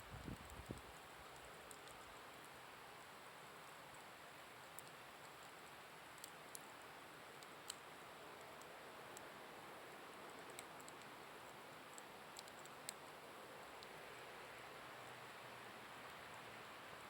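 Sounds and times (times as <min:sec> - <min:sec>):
bonfire crackling: 0:00.0 - 0:17.0
steady hiss: 0:00.0 - 0:17.0.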